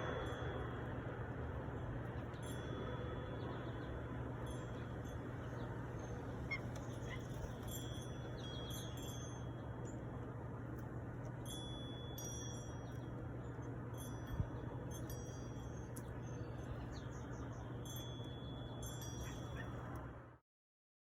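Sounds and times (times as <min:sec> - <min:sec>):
metal wind chimes tinkling: 0:00.0 - 0:10.3, 0:11.2 - 0:20.0
low hum and hiss: 0:00.0 - 0:20.4.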